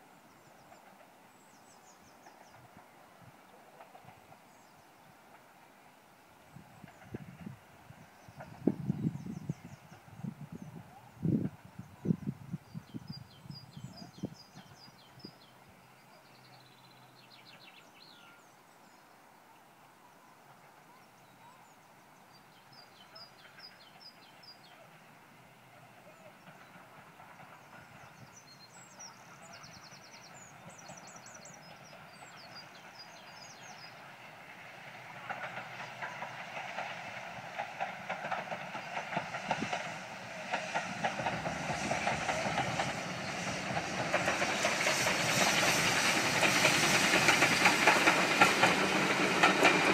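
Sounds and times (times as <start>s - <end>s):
train wheel noise: 0.0s - 18.4s, 20.4s - 49.9s
steam locomotive approaching: 0.0s - 49.9s.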